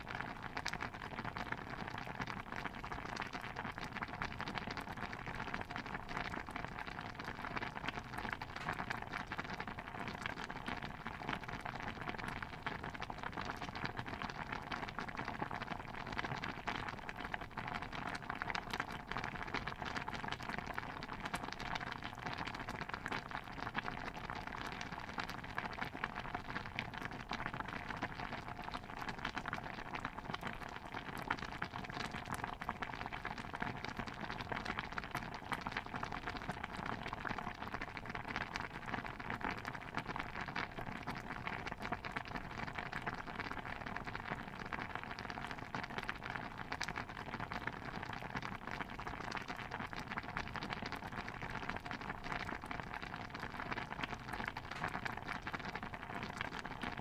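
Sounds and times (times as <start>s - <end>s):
stew bubbling in a pot: 0.0s - 57.0s.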